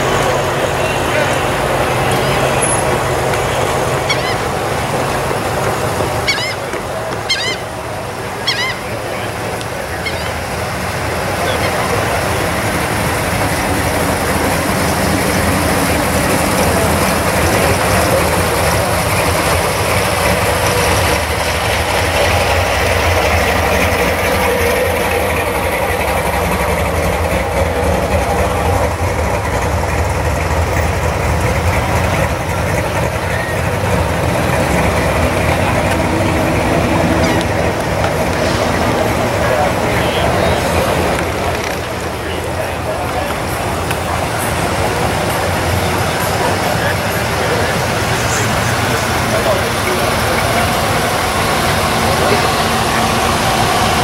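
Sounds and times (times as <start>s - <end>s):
car engines rumbling past: 0.0s - 54.0s.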